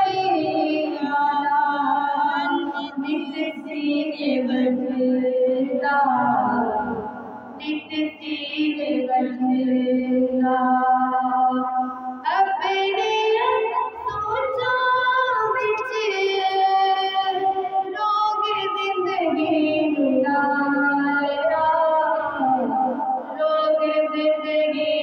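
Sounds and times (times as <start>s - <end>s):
woman singing devotional song: 0.0s - 25.0s.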